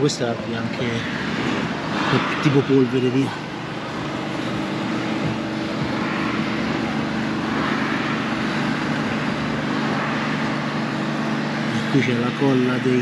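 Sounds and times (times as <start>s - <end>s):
low engine hum: 0.0s - 13.0s
traffic rushing noise: 0.0s - 13.0s.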